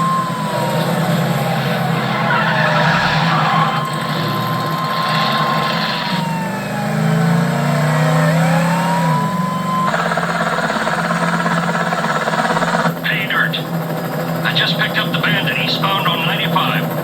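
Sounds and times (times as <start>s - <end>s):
car engines revving: 0.0s - 17.0s
police siren wailing: 0.0s - 17.0s.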